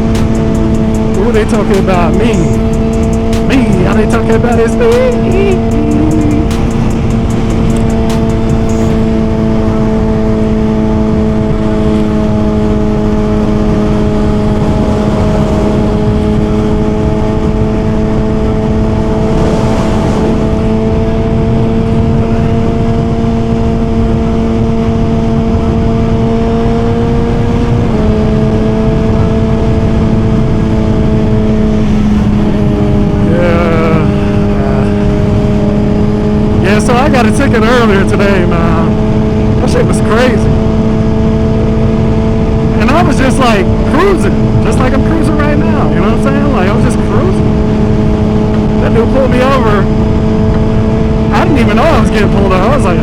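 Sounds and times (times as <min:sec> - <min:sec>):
motorcycle engine cruising: 0:00.0 - 0:53.0
wind rushing over microphone: 0:00.0 - 0:53.0.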